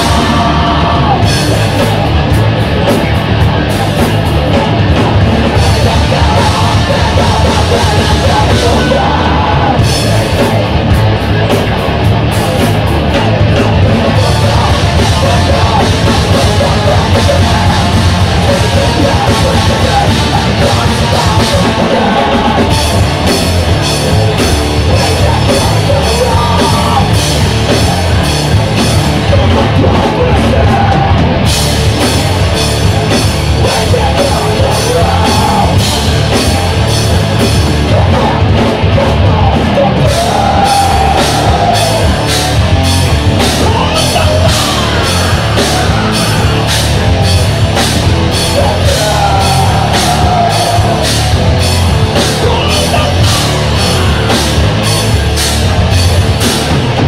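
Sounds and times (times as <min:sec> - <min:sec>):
drum kit cymbal beat: 0:00.0 - 0:57.0
electric guitars: 0:00.0 - 0:57.0.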